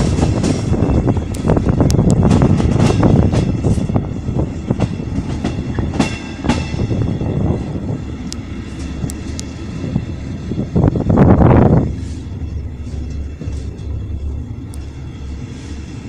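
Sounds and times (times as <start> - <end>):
train rumble: 0.0 - 16.0
train wheels clicking over rail joints: 0.0 - 16.0.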